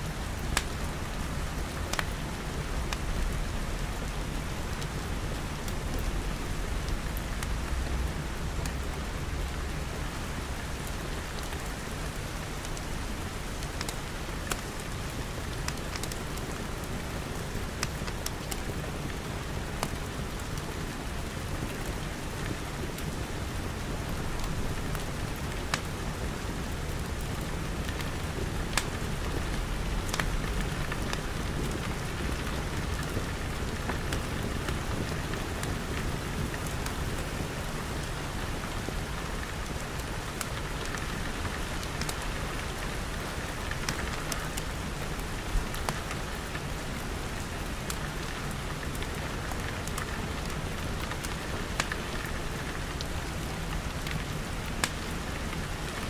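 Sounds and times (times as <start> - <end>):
rain pattering on glass: 0.1 - 56.0
wood fire crackling: 0.1 - 56.0.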